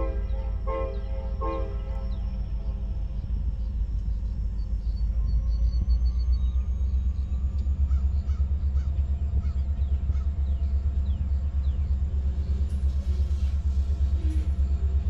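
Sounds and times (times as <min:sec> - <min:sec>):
freight train cars rolling past: 0:00.0 - 0:15.0.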